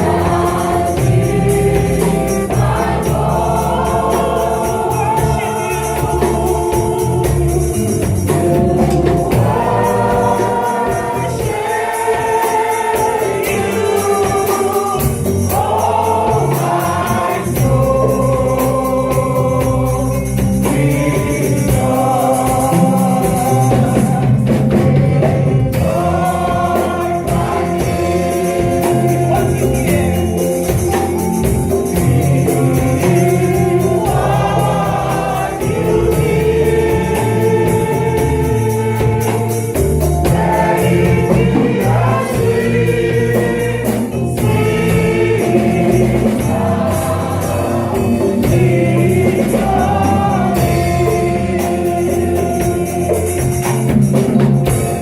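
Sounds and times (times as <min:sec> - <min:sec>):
gospel choir singing with band: 0:00.0 - 0:55.0
tambourine beat: 0:00.0 - 0:55.0.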